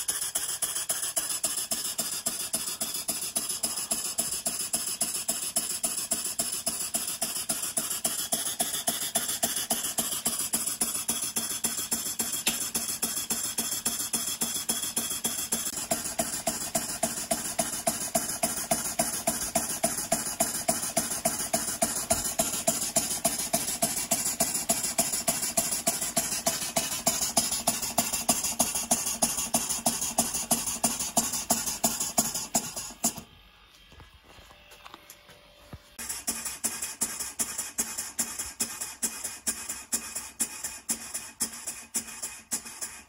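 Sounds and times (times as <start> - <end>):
model steam engine puffing: 0.0 - 33.2, 36.0 - 43.0.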